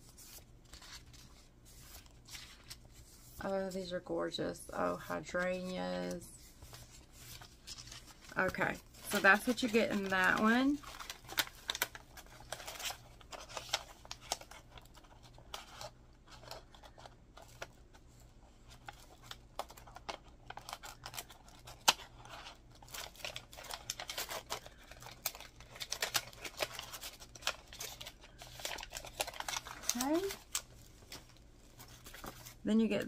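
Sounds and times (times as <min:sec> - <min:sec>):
paper packaging rustling: 0:00.0 - 0:03.8, 0:04.8 - 0:33.0.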